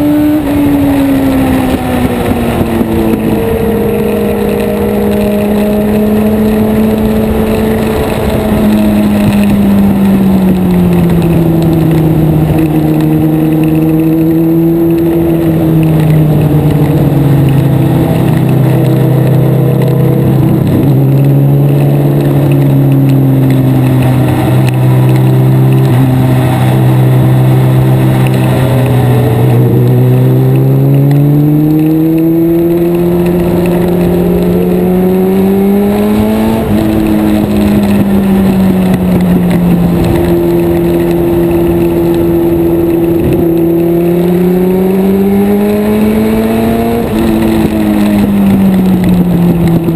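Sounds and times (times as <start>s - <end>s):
race car engine: 0.0s - 49.9s.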